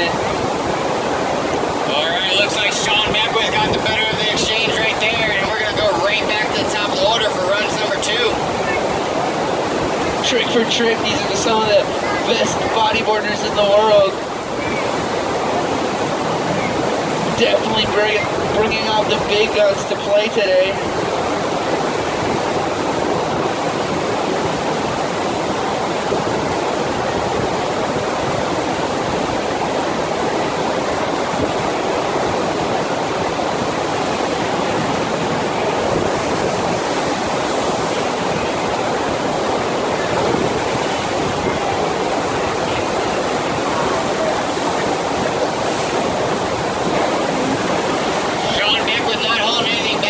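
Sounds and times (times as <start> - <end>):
water rushing: 0.0 - 50.0.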